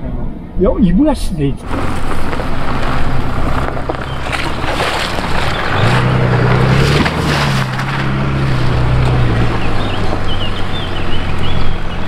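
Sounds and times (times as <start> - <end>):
diesel engine driving past: 1.6 - 12.0.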